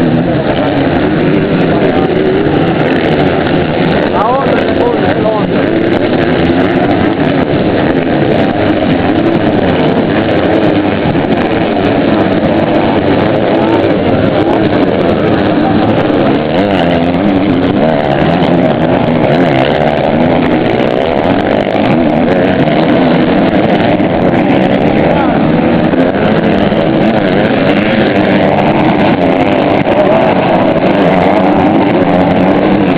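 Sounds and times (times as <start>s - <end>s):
motocross engines revving: 0.0s - 32.9s.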